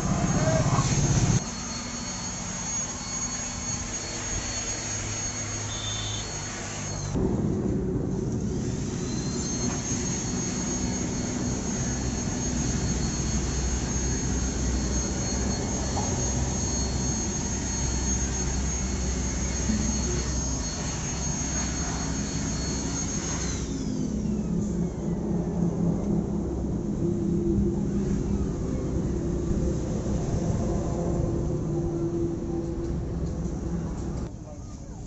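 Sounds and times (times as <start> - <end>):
pressure washer motor whine: 0.0 - 34.3.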